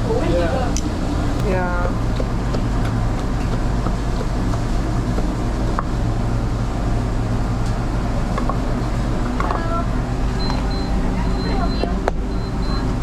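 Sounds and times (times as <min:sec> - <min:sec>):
low machine hum: 0:00.0 - 0:12.9.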